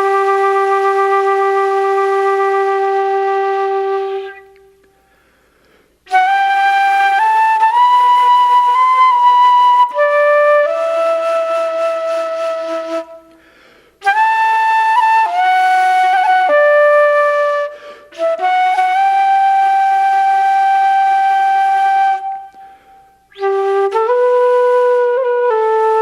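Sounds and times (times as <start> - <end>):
solo flute melody: 0.0 - 5.1, 6.1 - 26.0.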